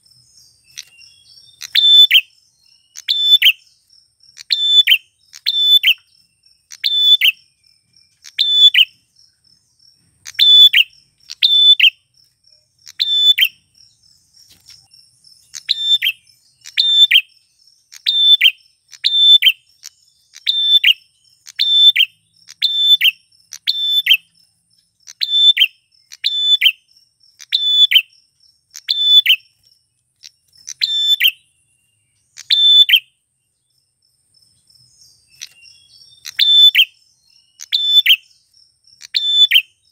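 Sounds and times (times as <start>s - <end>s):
bird sharp chirping: 0.0s - 39.9s.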